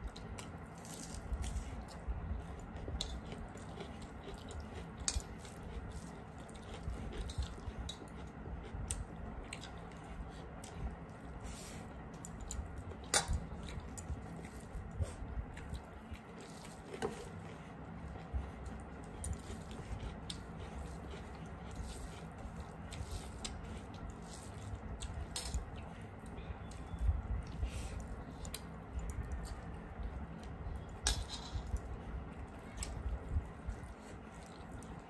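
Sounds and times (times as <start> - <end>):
wet chewing and lip smacking: 0.0 - 11.4, 12.0 - 35.0
fingers squishing rice on plates: 0.1 - 35.0.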